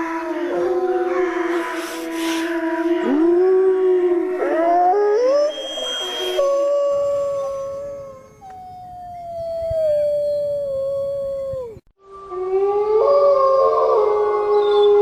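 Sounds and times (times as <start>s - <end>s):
wolves howling: 0.0s - 15.0s.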